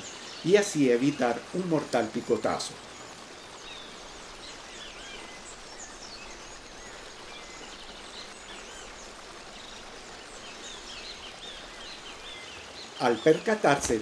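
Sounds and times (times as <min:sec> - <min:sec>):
small birds chirping: 0:00.0 - 0:14.0
steady hiss: 0:00.0 - 0:14.0.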